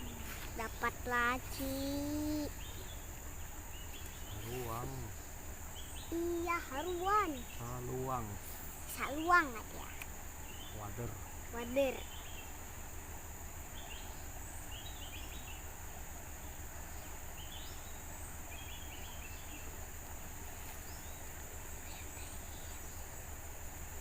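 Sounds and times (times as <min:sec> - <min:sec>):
insects droning: 0:00.0 - 0:24.0
low background rumble: 0:00.0 - 0:24.0.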